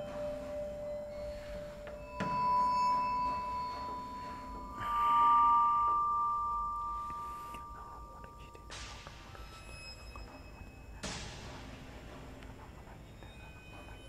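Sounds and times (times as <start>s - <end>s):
small metal bell ringing: 0.0s - 11.3s.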